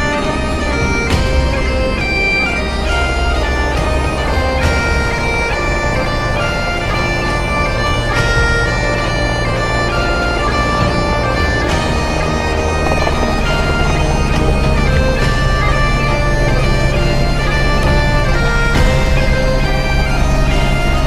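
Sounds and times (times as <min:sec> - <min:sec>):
bagpipe music: 0:00.0 - 0:21.0.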